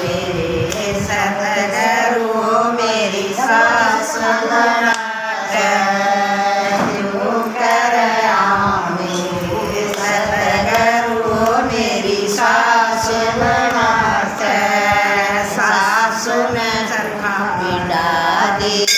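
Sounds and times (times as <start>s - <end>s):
women singing devotional song: 0.0s - 18.9s.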